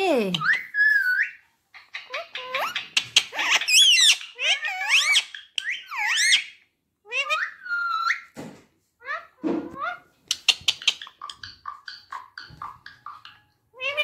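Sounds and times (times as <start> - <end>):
parakeet squeaky calls: 0.2 - 8.4, 9.0 - 14.0.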